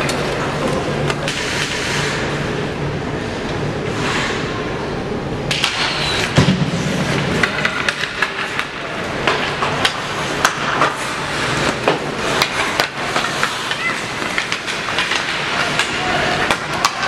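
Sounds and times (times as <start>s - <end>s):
hockey sticks and puck clacking: 0.0s - 2.3s, 5.5s - 17.0s
rink background hum: 0.0s - 17.0s.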